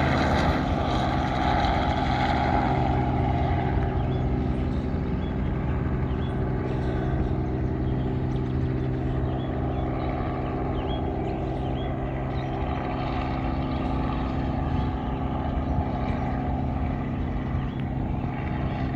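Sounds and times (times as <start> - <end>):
helicopter engine and rotor: 0.0 - 18.9.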